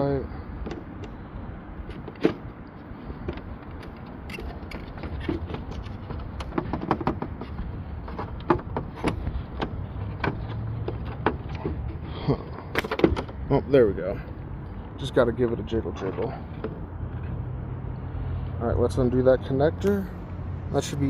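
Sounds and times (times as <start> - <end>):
tail light housing clicking and scraping: 0.6 - 18.6.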